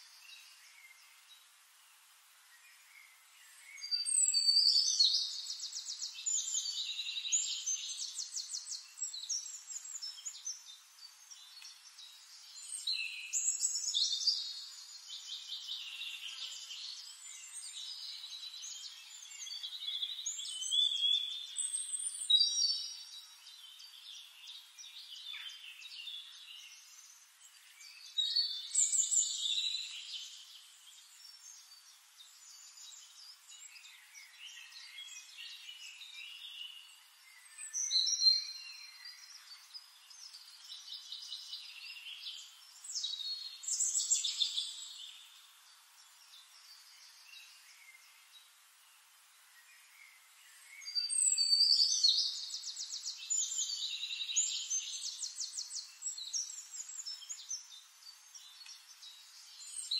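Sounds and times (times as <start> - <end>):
faint hiss: 0.0 - 59.9
birds chirping and trilling: 2.6 - 59.9.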